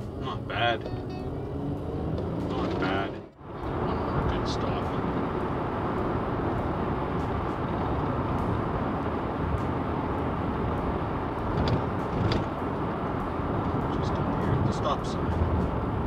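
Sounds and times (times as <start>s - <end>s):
car engine hum: 0.0s - 16.0s
road and tyre noise: 0.0s - 16.0s.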